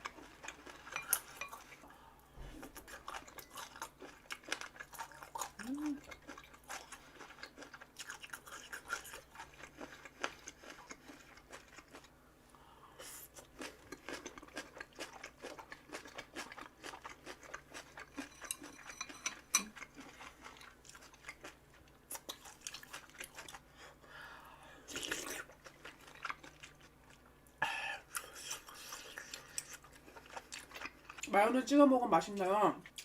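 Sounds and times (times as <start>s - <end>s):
chewing and biting food: 0.0s - 1.8s, 2.6s - 12.1s, 13.3s - 23.7s, 24.9s - 27.3s, 28.1s - 31.3s.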